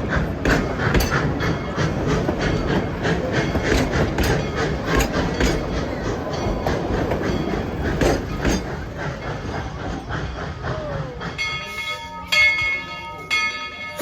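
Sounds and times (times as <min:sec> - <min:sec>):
steam train rumbling: 0:00.0 - 0:14.0
wheels clanking over rail joints: 0:00.0 - 0:14.0.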